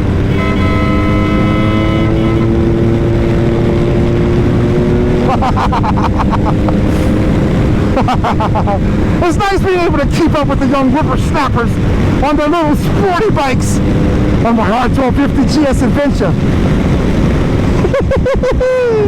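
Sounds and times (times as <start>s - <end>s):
motorcycle engine accelerating: 0.0s - 18.3s
wind and road noise: 0.0s - 19.0s.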